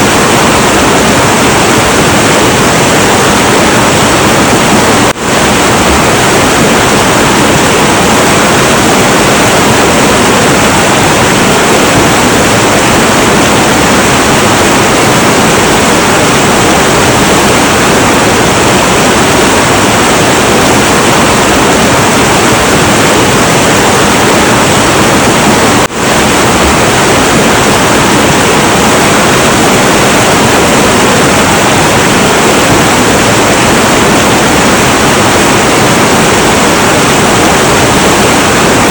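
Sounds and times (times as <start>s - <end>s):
turbulent river water rushing: 0.0s - 38.9s.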